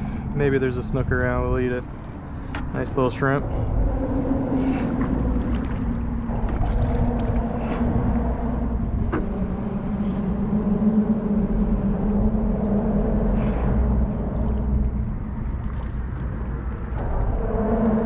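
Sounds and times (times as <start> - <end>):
low rumble: 0.0 - 18.0
motorboat engine humming: 0.0 - 18.0.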